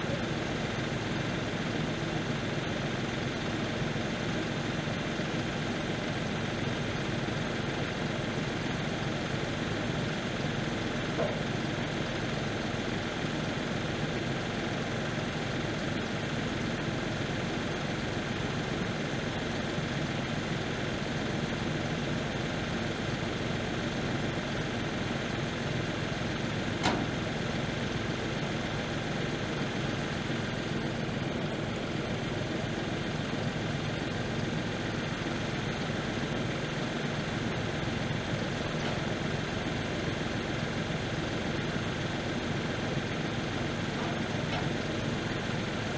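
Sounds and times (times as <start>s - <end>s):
tractor engine idling: 0.0s - 45.9s.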